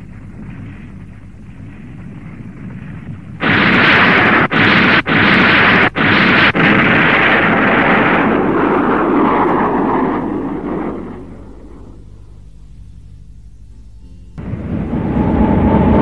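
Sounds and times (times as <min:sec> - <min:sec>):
explosion blast rumbling: 0:00.0 - 0:12.4, 0:14.4 - 0:16.0
faint low hum: 0:00.0 - 0:16.0.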